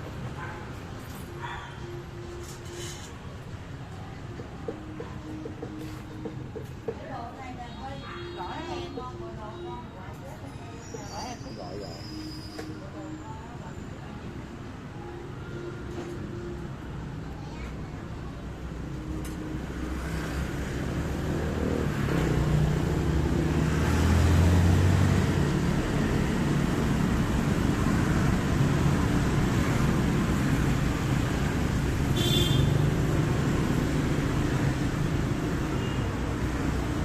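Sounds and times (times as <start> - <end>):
traffic rumble: 0.0 - 37.0.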